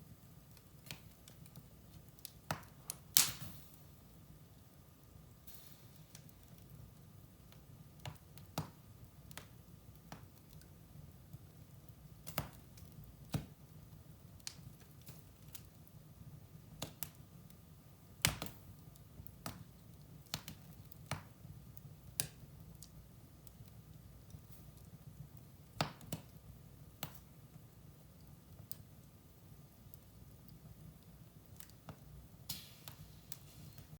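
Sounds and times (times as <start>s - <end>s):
wood fire crackling: 0.0s - 33.9s
sharp pops of fire: 0.4s - 33.9s.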